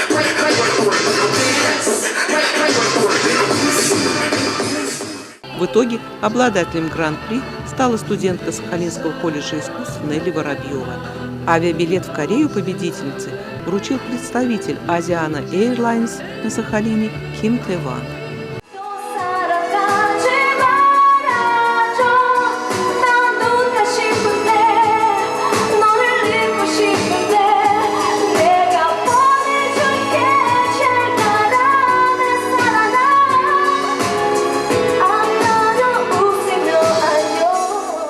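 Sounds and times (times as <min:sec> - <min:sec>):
pop song with singing: 0:00.0 - 0:38.0.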